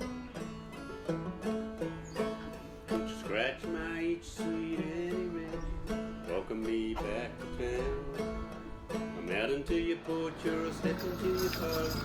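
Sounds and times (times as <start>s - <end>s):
country song with acoustic guitar: 0.0s - 12.0s.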